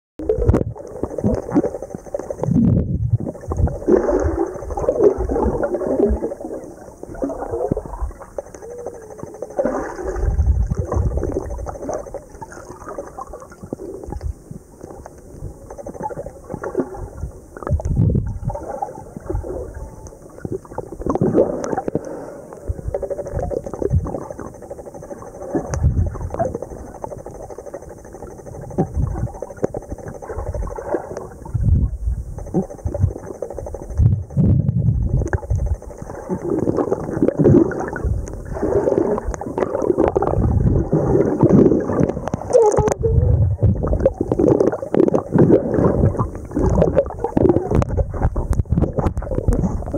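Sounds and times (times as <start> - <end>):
underwater rumbling and gurgling: 0.2 - 49.9.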